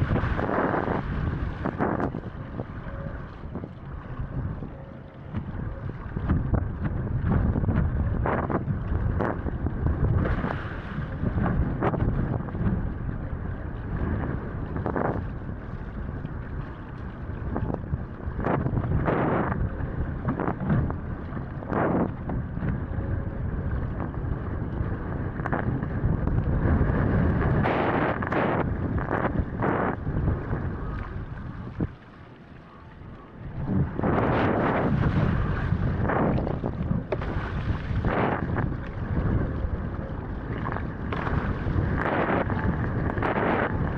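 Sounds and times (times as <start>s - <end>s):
rushing water: 0.0s - 43.9s
wind buffeting microphone: 0.0s - 43.9s.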